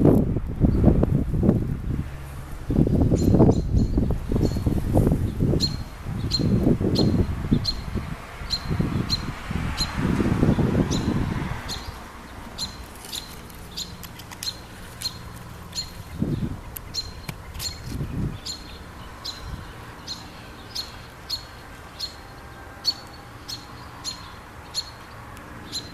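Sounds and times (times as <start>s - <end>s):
robin chirping: 3.1s - 25.9s.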